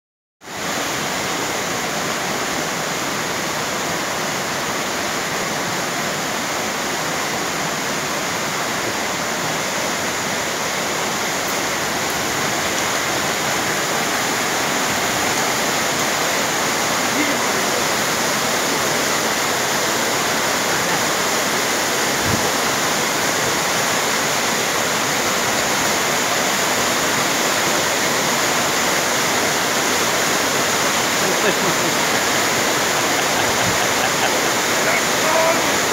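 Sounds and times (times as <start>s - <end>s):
waterfall rushing: 0.4s - 35.9s.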